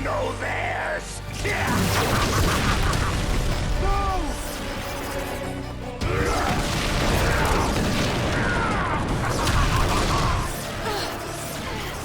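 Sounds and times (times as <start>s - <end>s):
dramatic orchestral score: 0.0s - 12.0s.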